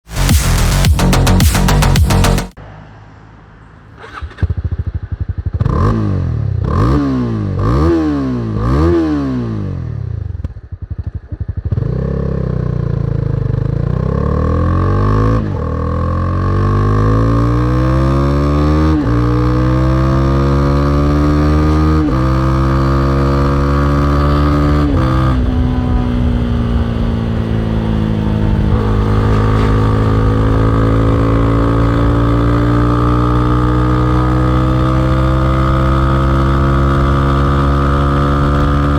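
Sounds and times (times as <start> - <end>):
motorcycle accelerating through gears: 4.0 - 38.9
motorcycle engine revving: 4.0 - 38.9.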